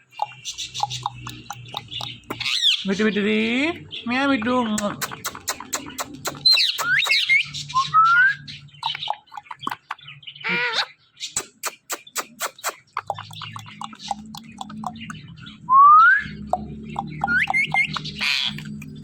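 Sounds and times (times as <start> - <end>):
parrots whistling and chirping: 0.0 - 2.9, 5.0 - 19.0.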